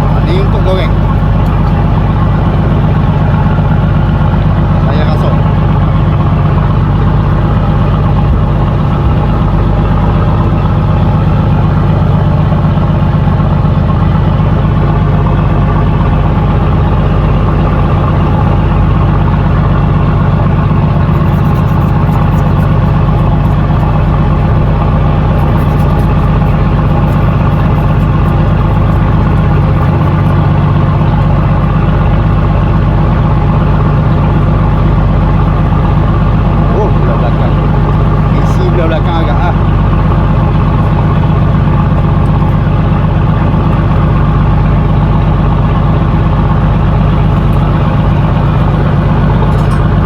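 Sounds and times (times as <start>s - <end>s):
boat engine idling: 0.0s - 50.0s.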